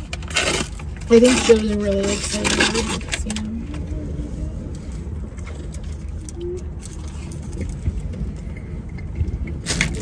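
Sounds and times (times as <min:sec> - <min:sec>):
low rumble inside car: 0:00.0 - 0:10.0.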